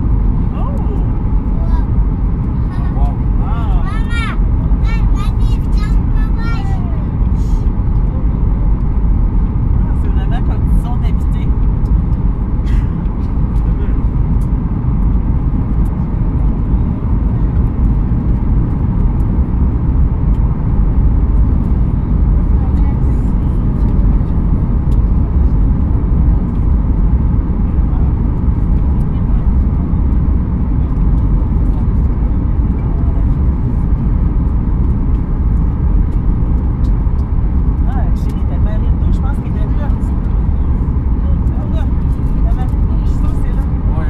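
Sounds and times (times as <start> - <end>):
airplane cabin roar: 0.0 - 44.0.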